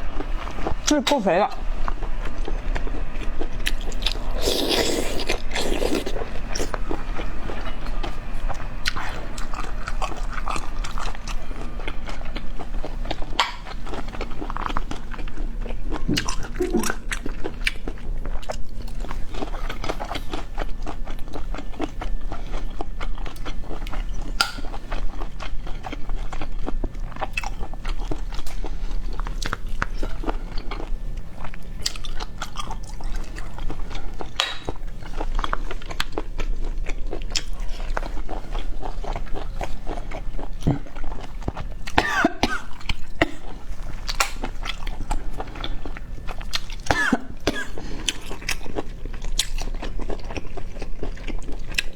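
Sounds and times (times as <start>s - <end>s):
wet chewing and slurping: 1.6s - 51.9s.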